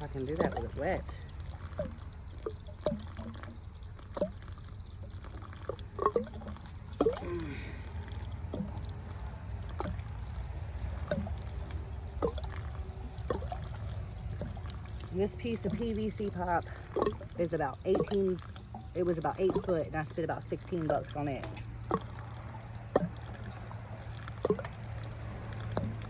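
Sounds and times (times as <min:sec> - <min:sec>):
steady low rumble: 0:00.0 - 0:26.0
water pouring from a pipe: 0:00.0 - 0:26.0.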